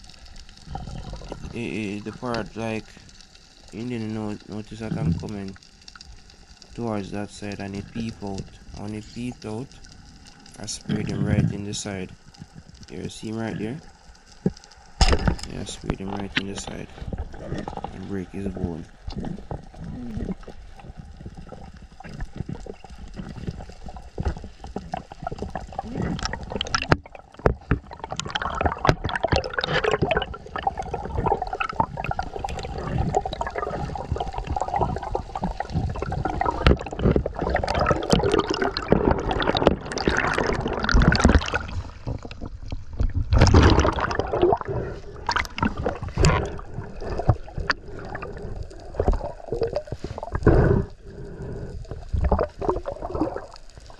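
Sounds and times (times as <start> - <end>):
water gurgling and sloshing: 0.0 - 53.9.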